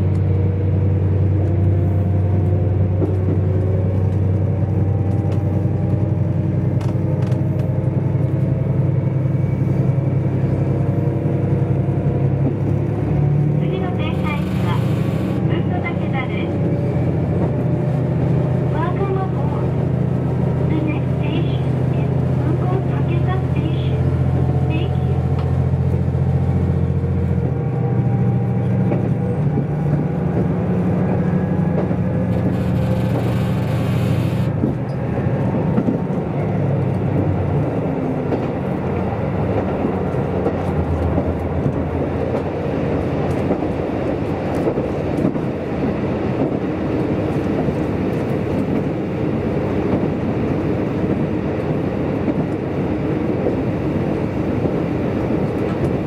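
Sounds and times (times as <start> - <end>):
railcar engine drone: 0.0 - 56.0
wheels rumbling on rail: 0.0 - 56.0.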